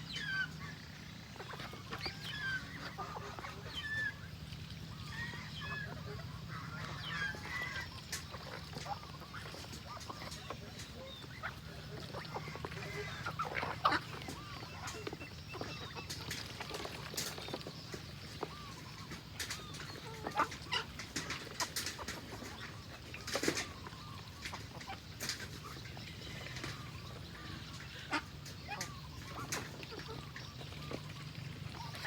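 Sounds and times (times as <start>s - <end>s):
poultry clucking: 0.0s - 32.0s.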